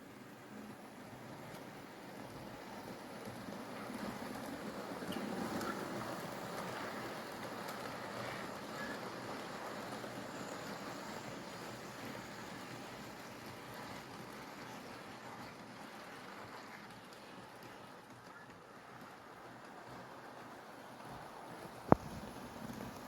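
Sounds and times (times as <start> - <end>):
model train wheels rumbling on rail: 0.0 - 23.0.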